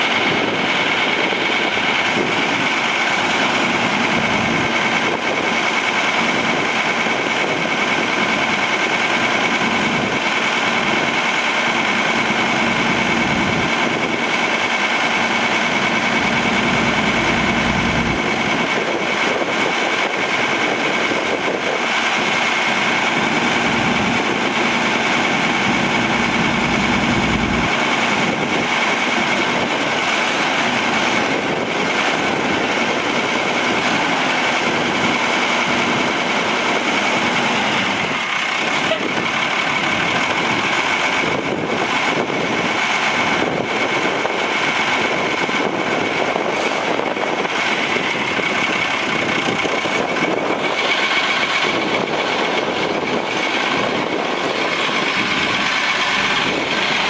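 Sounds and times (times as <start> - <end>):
constant high whine: 0.0 - 57.0
diesel truck engine idling: 0.0 - 57.0.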